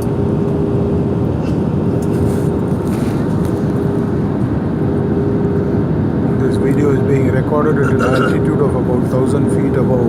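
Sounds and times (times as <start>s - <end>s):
airliner cabin rush of airflow: 0.0s - 10.0s
steady hum: 0.0s - 10.0s.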